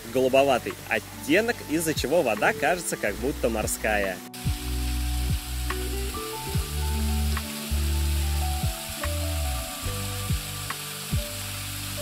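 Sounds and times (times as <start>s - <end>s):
fountain water splashing: 0.0s - 12.0s
music with bass and thumping beat: 1.6s - 12.0s.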